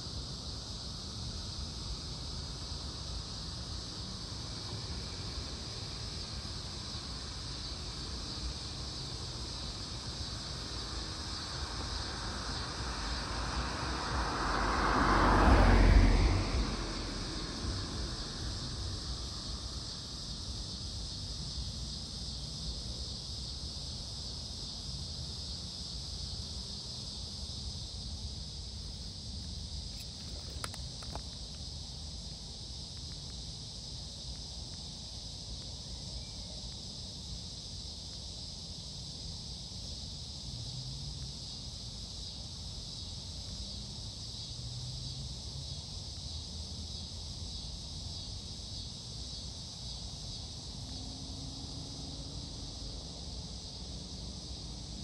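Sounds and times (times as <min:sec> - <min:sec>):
insects buzzing: 0:00.0 - 0:55.0.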